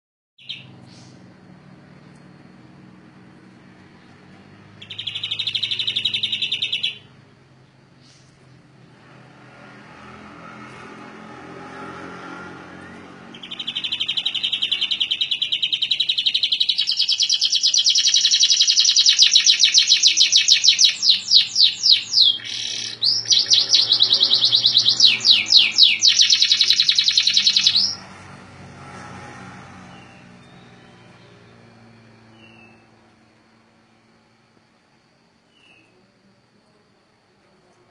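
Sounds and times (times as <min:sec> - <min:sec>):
canary singing a rolling trill: 0:00.4 - 0:01.8, 0:02.4 - 0:34.4, 0:35.4 - 0:36.1.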